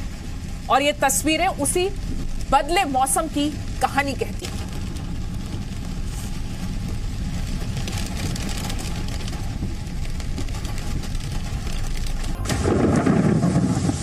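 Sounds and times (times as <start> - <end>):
rain hiss: 0.0 - 14.0
traffic rumble on wet road: 0.0 - 14.0.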